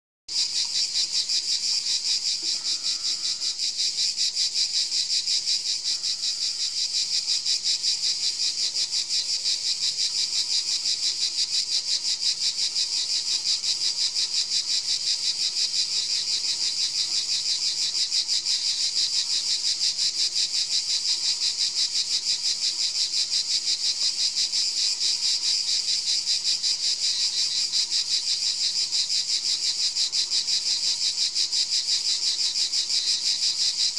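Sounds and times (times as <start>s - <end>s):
insects chirring: 0.3s - 33.9s.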